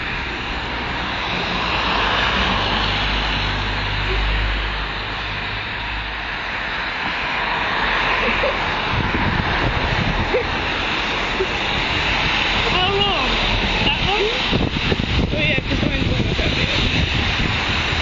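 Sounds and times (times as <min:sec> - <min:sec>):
broad rushing noise: 0:00.0 - 0:18.0.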